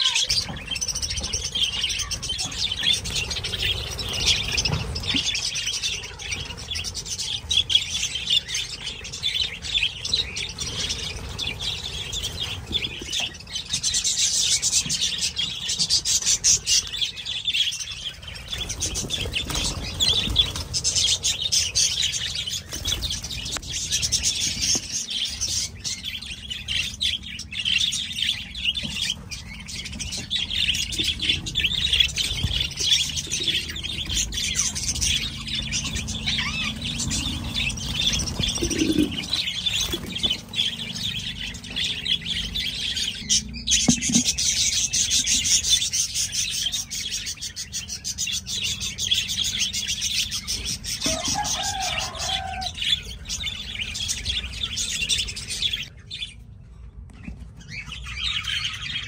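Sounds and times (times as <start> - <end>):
budgerigars chirping: 0.0 - 56.4.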